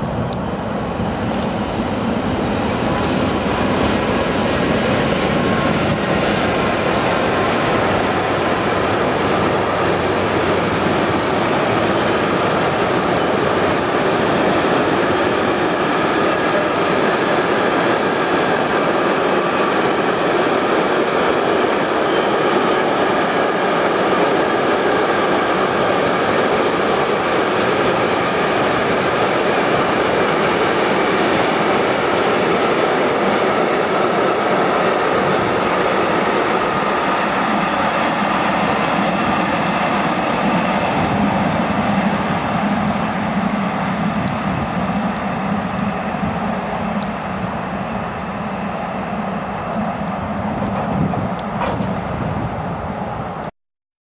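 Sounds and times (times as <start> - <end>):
train wheels rumbling on rails: 0.0 - 53.5.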